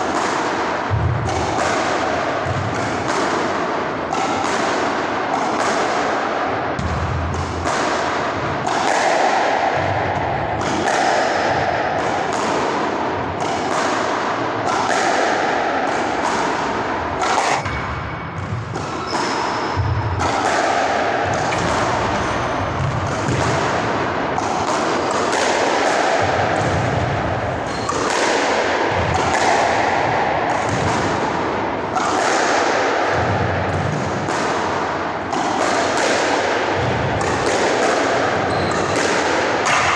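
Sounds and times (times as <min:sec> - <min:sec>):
ball striking court walls: 0:00.0 - 0:39.9
squash ball hit with racket: 0:00.0 - 0:39.9.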